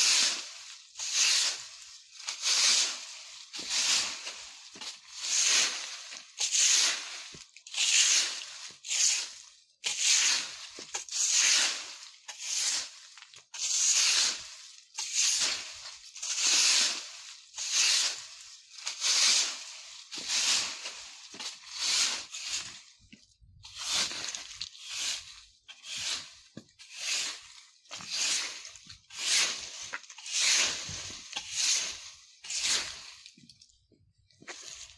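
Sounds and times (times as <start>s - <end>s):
broom sweeping dry leaves: 0.0s - 33.4s, 34.4s - 34.9s.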